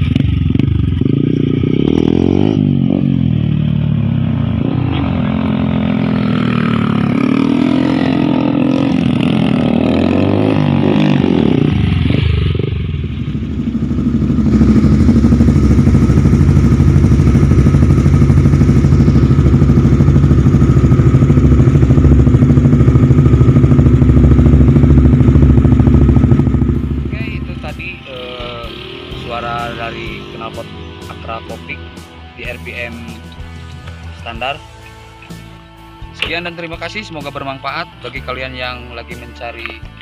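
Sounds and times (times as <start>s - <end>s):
motorcycle engine revving: 0.0s - 37.4s
motorcycle engine idling: 0.0s - 40.0s.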